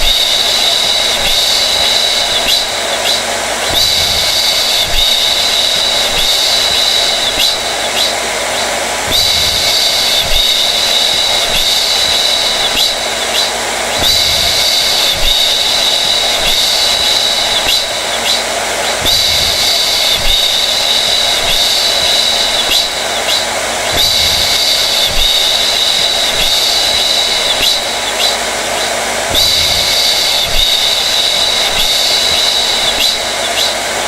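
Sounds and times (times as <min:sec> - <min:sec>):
hair dryer running: 0:00.0 - 0:34.0.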